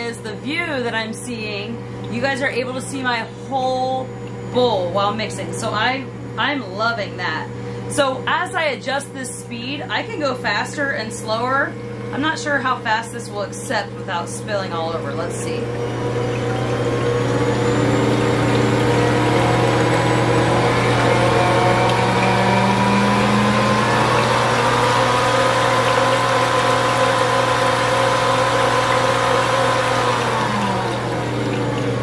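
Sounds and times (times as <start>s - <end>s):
stand mixer motor whining: 1.5s - 6.8s, 10.6s - 32.0s.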